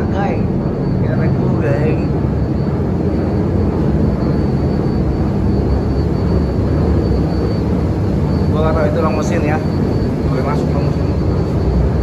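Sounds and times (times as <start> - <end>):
faint high whine: 0.0 - 12.0
ship engines droning: 0.0 - 12.0.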